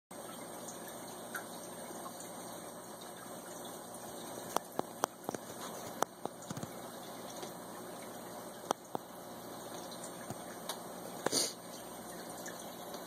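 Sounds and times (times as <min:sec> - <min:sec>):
aquarium water bubbling: 0:00.1 - 0:13.0.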